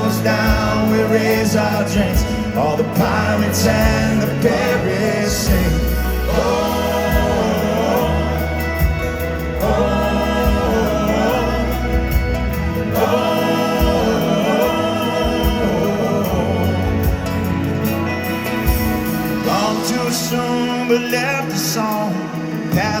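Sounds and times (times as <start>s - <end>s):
country-rock band playing: 0.0s - 23.0s
voices singing wordless refrain: 0.0s - 23.0s.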